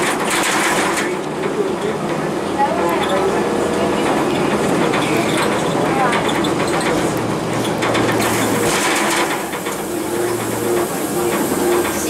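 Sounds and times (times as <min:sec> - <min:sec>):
bus body rattling: 0:00.0 - 0:12.0
bus diesel engine drone: 0:00.0 - 0:12.0.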